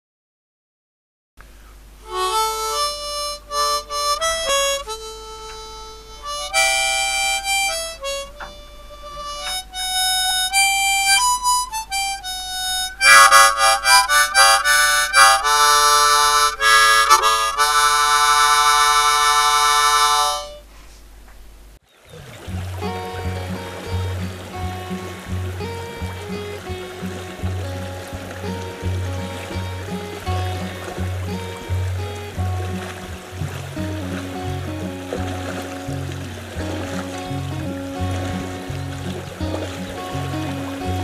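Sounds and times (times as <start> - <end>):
solo harmonica tune: 2.0 - 20.7, 22.8 - 41.0.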